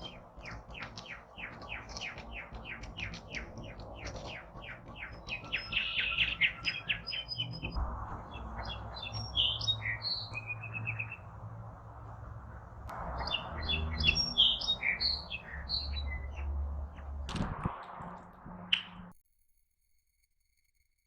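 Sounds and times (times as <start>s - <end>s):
songbirds chirping: 0.0s - 17.4s, 18.1s - 19.1s.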